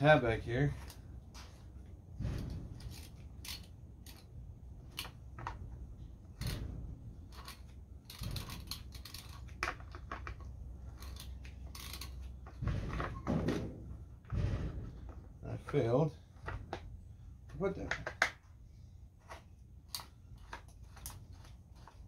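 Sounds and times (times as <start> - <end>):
plastic parts clicking and scraping: 0.7 - 18.6, 19.2 - 22.0.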